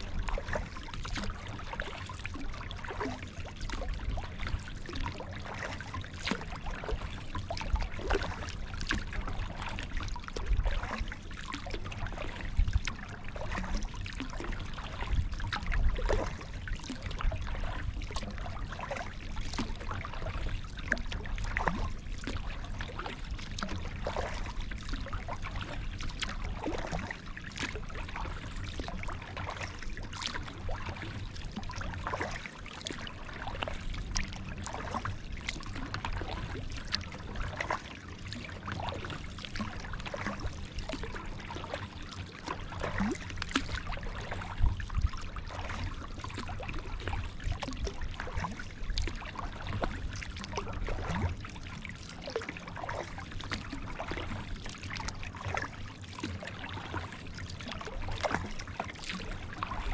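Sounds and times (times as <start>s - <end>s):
paddle splashing water: 0.0s - 59.9s.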